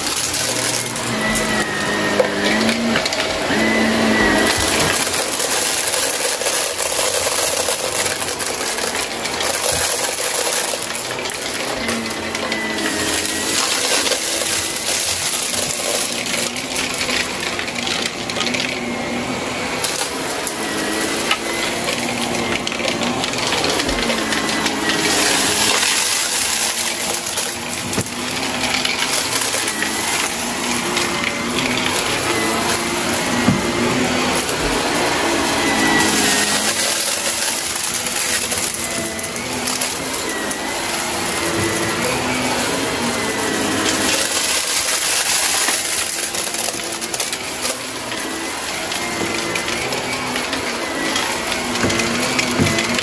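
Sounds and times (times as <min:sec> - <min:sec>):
debris rattling up vacuum: 0:00.0 - 0:53.0
vacuum cleaner motor hum: 0:00.0 - 0:53.0.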